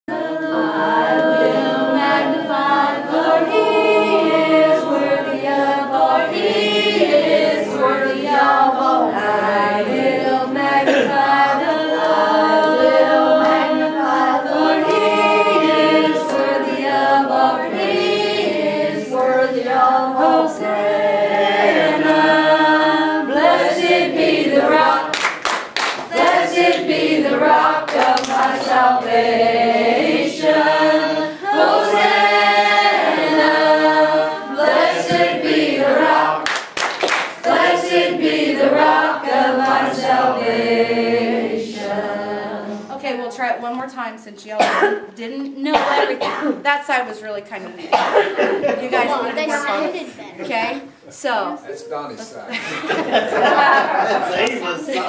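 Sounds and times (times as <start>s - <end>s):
children and women singing: 0.0s - 43.6s, 44.6s - 46.6s, 47.9s - 51.0s.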